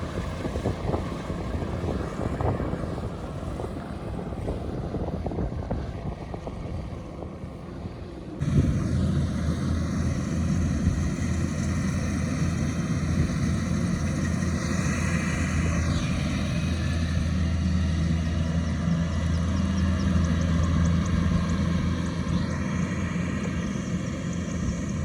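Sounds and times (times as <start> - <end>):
harvester engine droning: 0.0 - 25.0.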